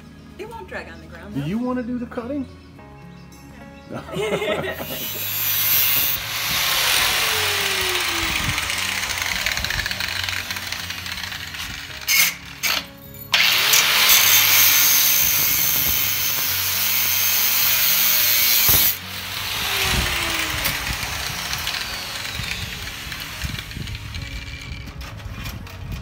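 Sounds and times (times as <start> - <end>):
angle grinder cutting steel tube: 4.7 - 25.8.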